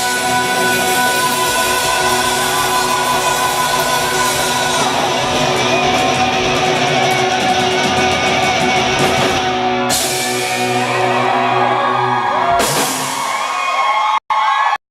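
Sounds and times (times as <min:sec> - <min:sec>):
live rock band: 0:00.0 - 0:13.5.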